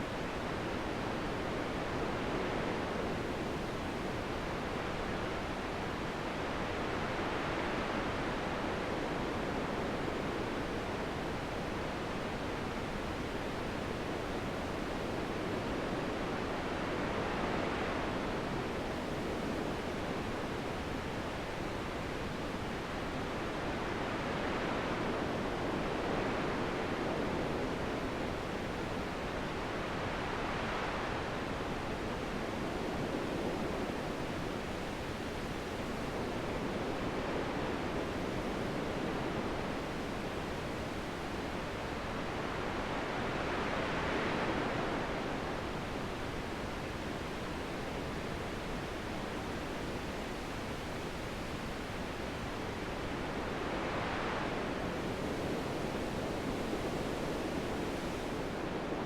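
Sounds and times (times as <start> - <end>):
gusting wind: 0.0 - 59.0.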